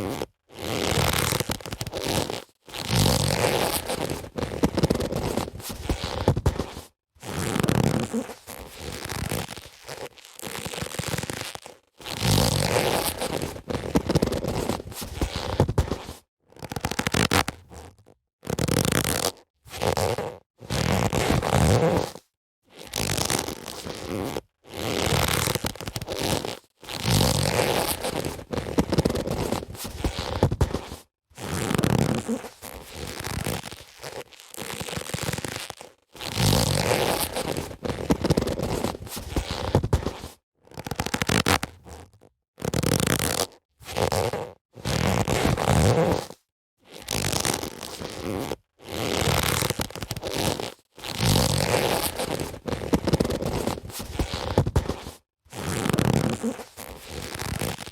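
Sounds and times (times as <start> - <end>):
leather gloves rubbing and creaking: 0.0 - 57.9.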